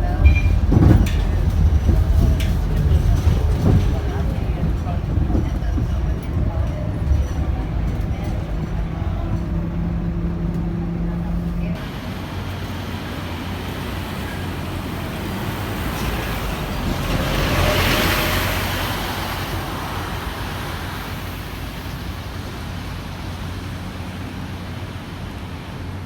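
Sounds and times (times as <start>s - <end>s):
low engine hum: 0.0s - 26.0s
tyre and road noise: 0.0s - 26.0s.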